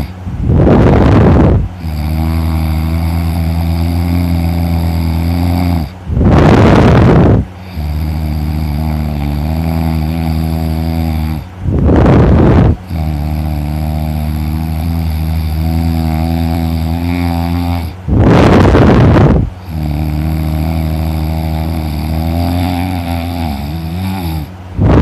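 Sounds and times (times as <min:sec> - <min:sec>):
loud breathy snore blast: 0:00.0 - 0:25.0
person snoring heavily: 0:00.0 - 0:25.0.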